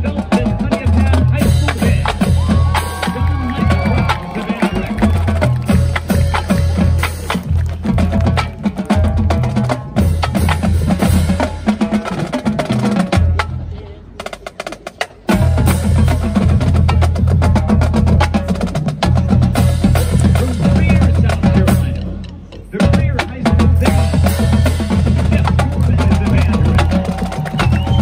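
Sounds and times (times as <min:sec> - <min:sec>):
marching drumline playing: 0:00.0 - 0:28.0.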